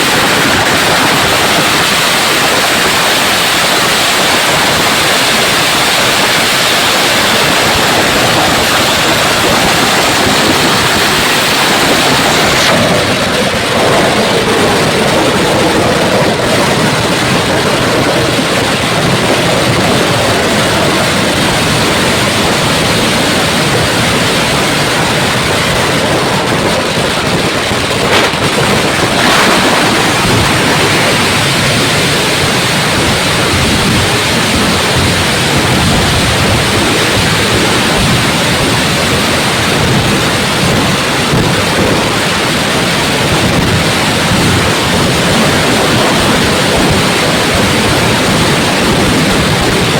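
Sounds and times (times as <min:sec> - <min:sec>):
fireworks crackling and banging: 0:00.0 - 0:49.9.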